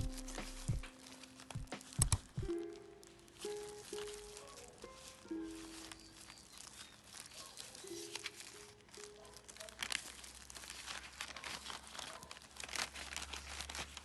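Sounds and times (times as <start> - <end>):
soft background music: 0.0 - 11.6
packaging crinkling: 0.0 - 14.0.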